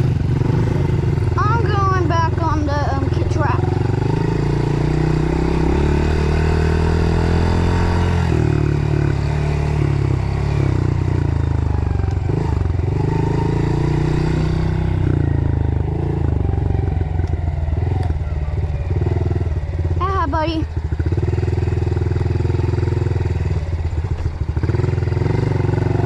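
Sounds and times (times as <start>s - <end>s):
dirt bike engine revving: 0.0s - 17.1s, 18.9s - 26.0s.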